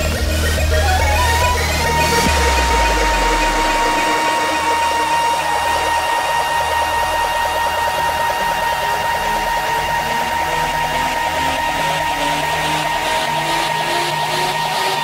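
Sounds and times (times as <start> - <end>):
deep bass: 0.0 - 15.0
dense noisy synth texture: 0.0 - 15.0.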